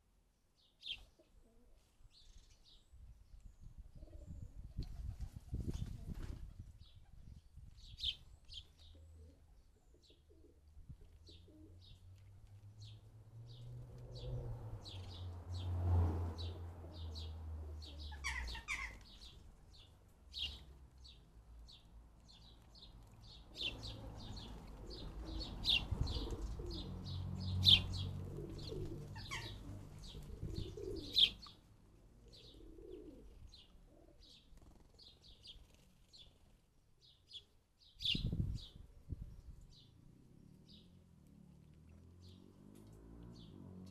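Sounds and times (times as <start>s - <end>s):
sparrows chirping: 0.6s - 1.3s, 2.1s - 3.7s, 6.8s - 41.2s, 41.9s - 43.9s.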